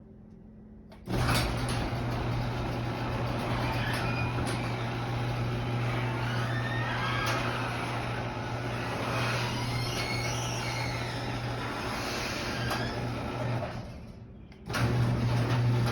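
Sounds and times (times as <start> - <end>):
garage door opener motor hum: 0.9 - 15.9
clicks and squeaks of rollers: 1.1 - 15.9
door rattling along track: 1.1 - 15.9.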